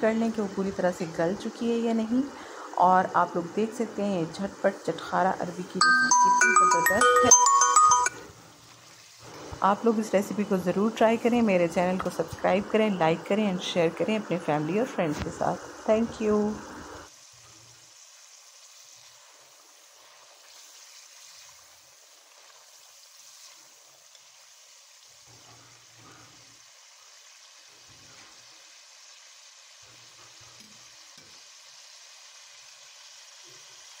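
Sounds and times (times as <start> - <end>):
curry simmering in a wok: 0.0 - 5.7, 8.4 - 34.0.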